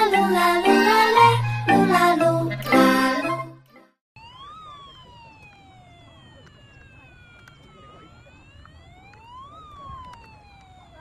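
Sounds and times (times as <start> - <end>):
toy siren wailing: 0.0 - 3.5, 4.2 - 11.0.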